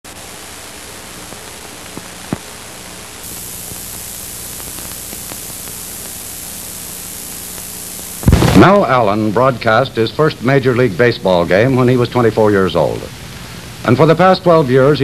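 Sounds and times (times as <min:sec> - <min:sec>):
tape hiss and static: 0:00.0 - 0:15.0
faint low hum: 0:00.1 - 0:15.0.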